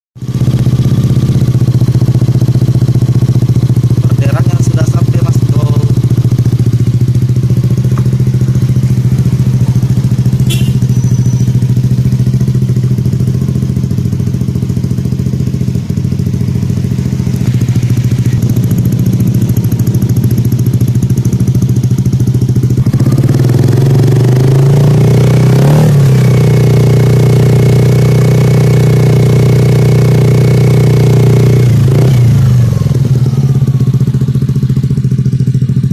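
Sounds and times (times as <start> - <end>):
scooter engine idling and revving: 0.2 - 35.9.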